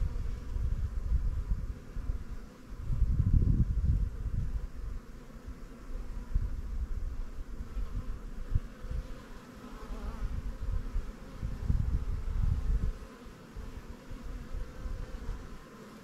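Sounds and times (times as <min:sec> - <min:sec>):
bees humming: 0:00.0 - 0:16.0.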